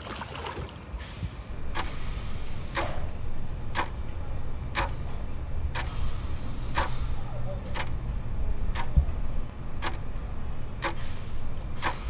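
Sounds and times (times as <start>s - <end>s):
clock ticking: 1.5s - 12.0s.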